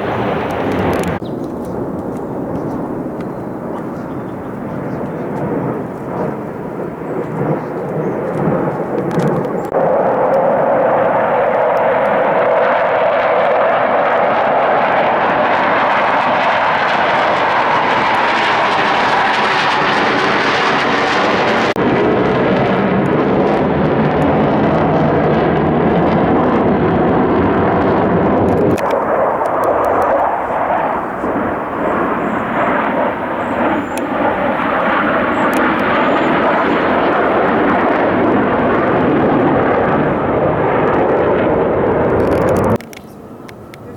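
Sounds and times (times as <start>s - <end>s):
jet aircraft engines: 0.0s - 43.9s.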